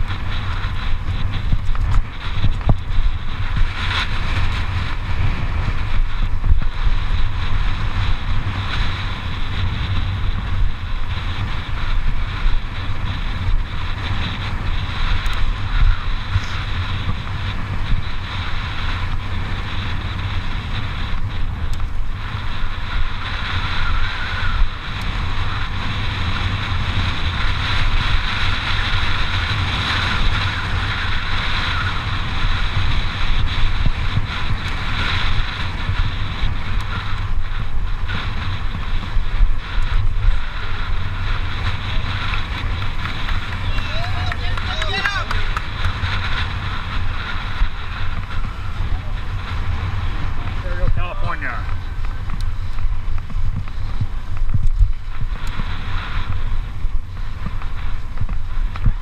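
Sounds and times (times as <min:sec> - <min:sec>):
tyres rolling over loose dirt: 0:00.0 - 0:59.0
wind buffeting microphone: 0:00.0 - 0:59.0.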